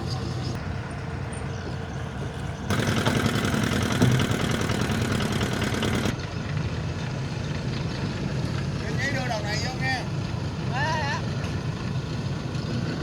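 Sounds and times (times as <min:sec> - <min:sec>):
tugboat engine running: 0:00.0 - 0:13.0.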